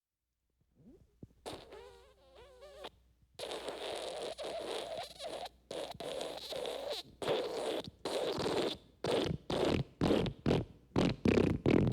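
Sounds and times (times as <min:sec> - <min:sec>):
squeaky fart: 0:00.8 - 0:11.9
wet sputtering fart: 0:01.4 - 0:11.9.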